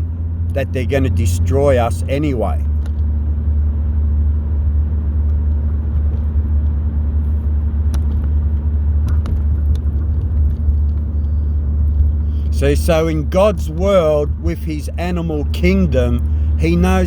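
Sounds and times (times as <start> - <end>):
car driving rumble from inside: 0.0 - 17.0
faint steady hum: 0.0 - 17.0.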